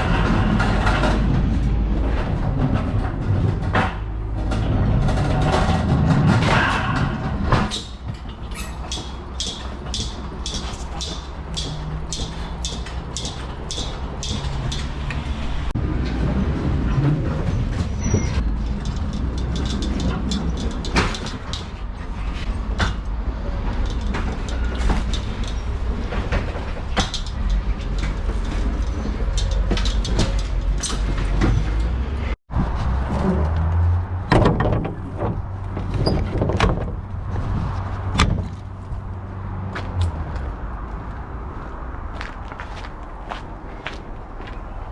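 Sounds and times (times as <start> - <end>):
rattles and knocks: 0.0 - 32.4, 33.6 - 39.1
lorry engine rumble: 0.0 - 44.9.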